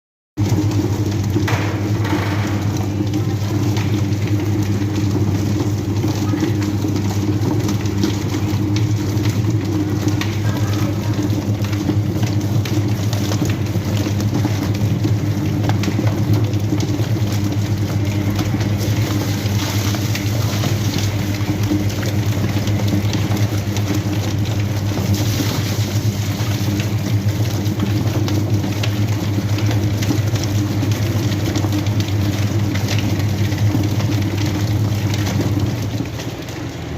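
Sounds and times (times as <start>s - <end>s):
motor hum: 0.4s - 36.9s.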